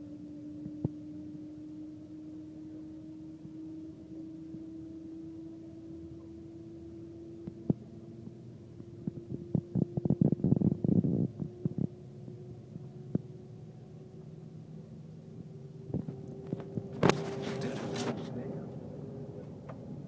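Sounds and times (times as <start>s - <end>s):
train cabin drone: 0.0s - 20.0s.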